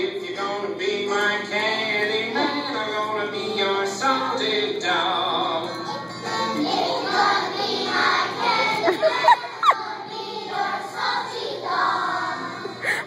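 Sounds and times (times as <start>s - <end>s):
children's choir singing: 0.0s - 12.8s.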